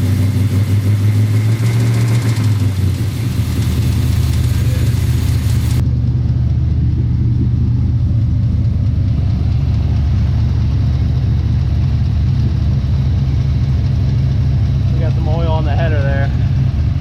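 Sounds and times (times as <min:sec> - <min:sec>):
car engine idling: 0:00.0 - 0:17.0
engine ticking: 0:00.0 - 0:17.0.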